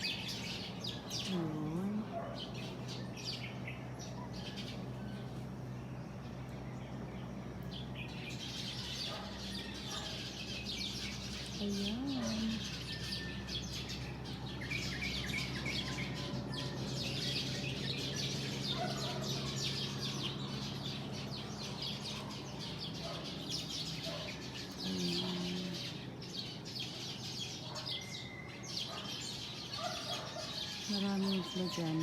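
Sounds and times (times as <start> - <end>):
low steady hum: 0.0 - 27.0
small birds chirping: 0.0 - 32.0.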